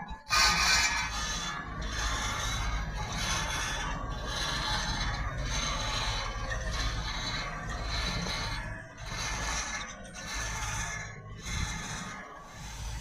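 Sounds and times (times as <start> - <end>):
tractor engine drone: 0.0 - 13.0
metallic rattling and scraping: 0.2 - 13.0.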